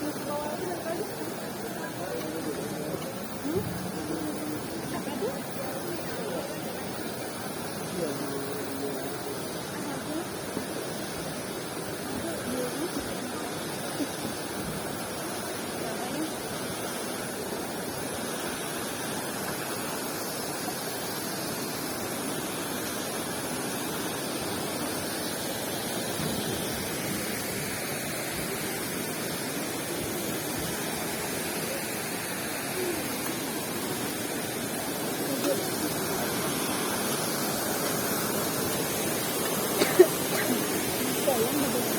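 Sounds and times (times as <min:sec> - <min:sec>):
faint distant voices: 0:00.0 - 0:41.9
waterfall rushing: 0:00.0 - 0:41.9.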